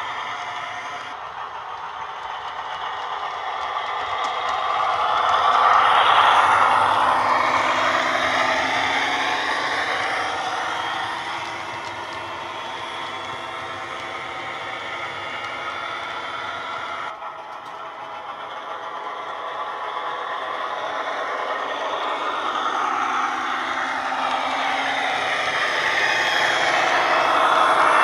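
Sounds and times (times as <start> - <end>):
diesel engine sound from speakers: 0.0 - 28.0.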